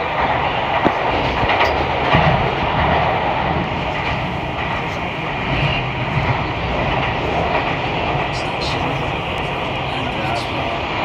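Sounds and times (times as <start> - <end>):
train rumble and rail roar: 0.0 - 11.0.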